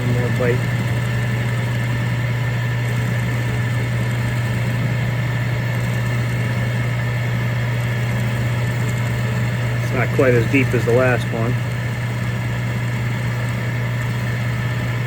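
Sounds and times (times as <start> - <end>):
drill press motor humming: 0.0 - 15.0.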